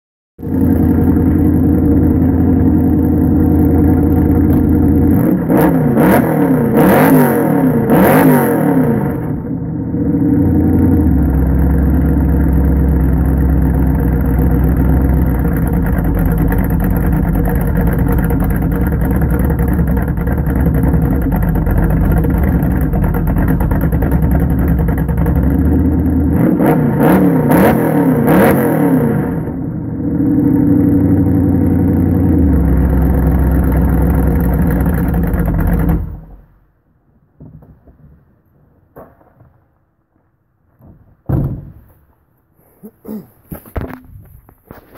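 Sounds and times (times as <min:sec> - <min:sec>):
car engine revving and idling: 0:00.4 - 0:36.7.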